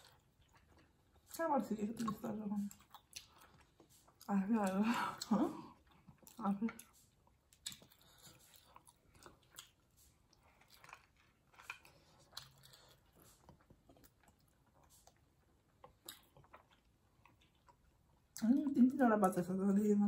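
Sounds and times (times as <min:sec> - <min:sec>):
people chewing food: 0:00.0 - 0:19.8.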